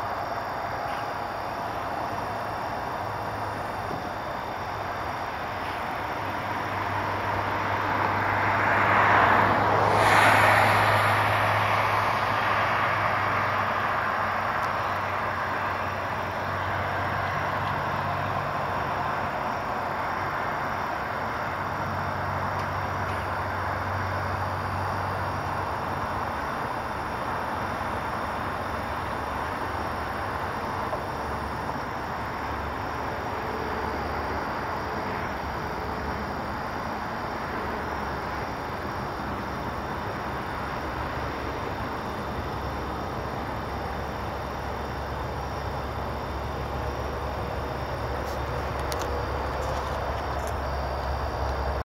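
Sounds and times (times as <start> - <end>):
highway traffic roar: 0.0 - 51.8.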